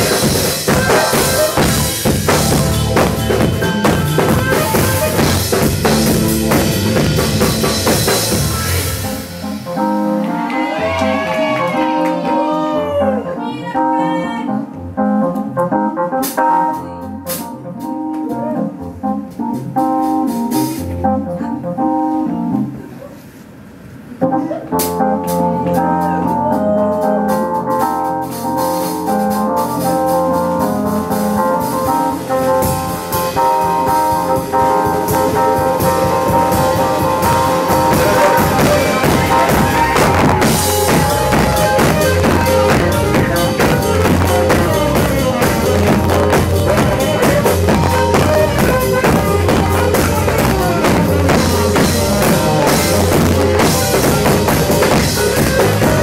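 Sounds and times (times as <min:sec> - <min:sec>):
live band playing dance music: 0:00.0 - 0:23.0, 0:24.2 - 0:56.0.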